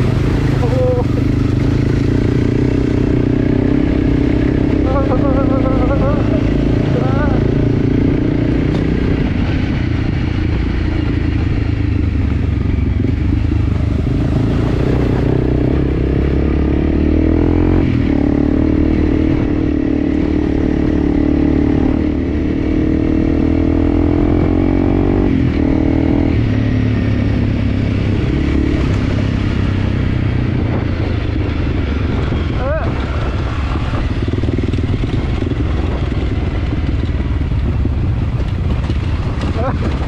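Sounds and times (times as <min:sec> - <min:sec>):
dirt bike engine: 0:00.0 - 0:40.0.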